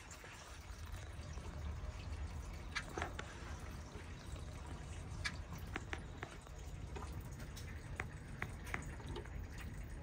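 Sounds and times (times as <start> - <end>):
low steady hum: 0.0 - 10.0
water dripping: 0.0 - 10.0.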